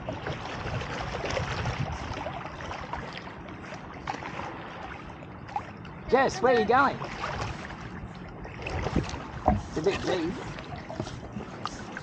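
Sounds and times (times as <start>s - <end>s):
water sloshing around kayak: 0.0s - 12.0s.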